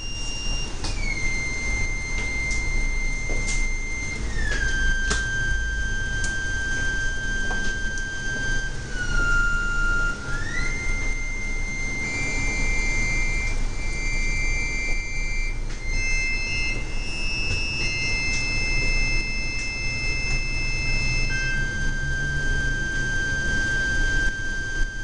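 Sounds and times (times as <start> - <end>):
high buzzy synthesizer tone: 0.0 - 25.0.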